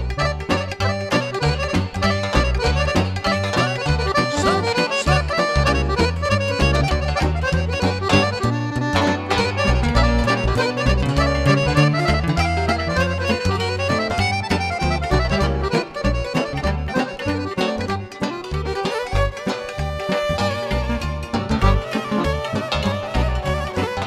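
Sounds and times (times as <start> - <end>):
accordion playing fast runs: 0.0 - 24.0
bass and chord beat: 0.0 - 24.0
violin: 0.0 - 24.0.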